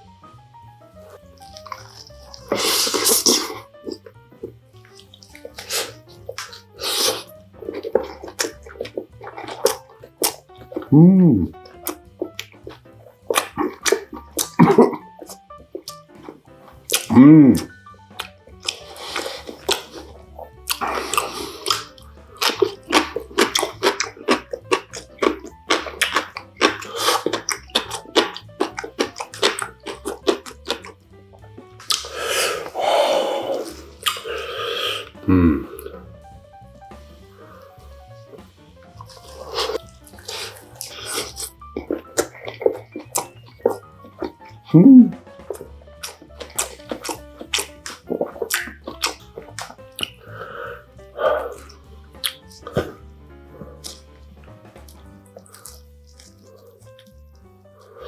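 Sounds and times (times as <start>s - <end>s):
soft background music: 0.0s - 58.0s
wet chewing sounds: 0.0s - 58.0s.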